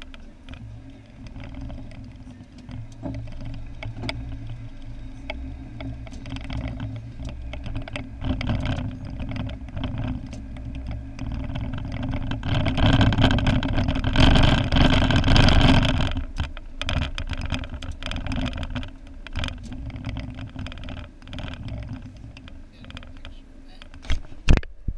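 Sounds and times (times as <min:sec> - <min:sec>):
car engine and tyre rumble: 0:00.0 - 0:24.9.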